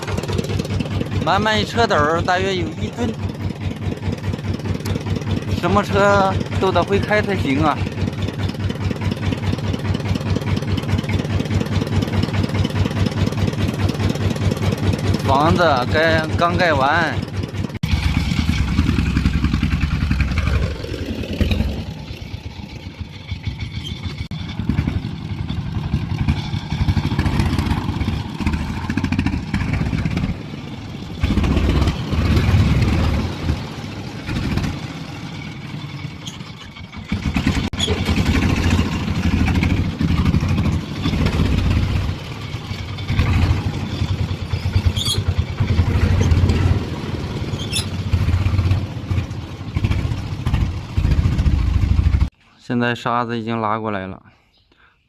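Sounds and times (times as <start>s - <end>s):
truck engine chugging and clattering: 0.0s - 52.4s.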